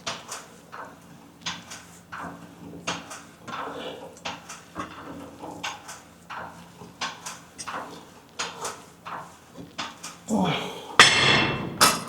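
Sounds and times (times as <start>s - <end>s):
gym equipment knocking and clattering: 0.0s - 10.4s, 11.0s - 12.0s.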